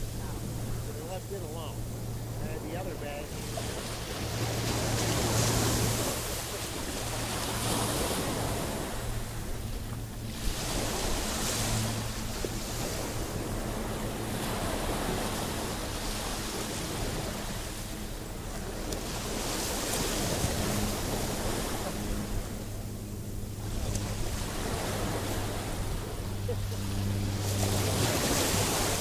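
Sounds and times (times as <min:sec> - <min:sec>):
ocean waves washing ashore: 0:00.0 - 0:29.0
wind buffeting microphone: 0:00.0 - 0:29.0.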